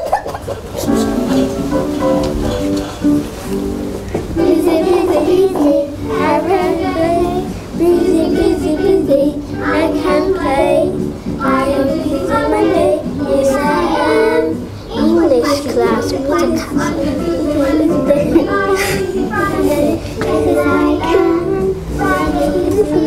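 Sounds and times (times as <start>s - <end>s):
musical accompaniment: 0.6s - 23.0s
children singing: 4.4s - 23.0s.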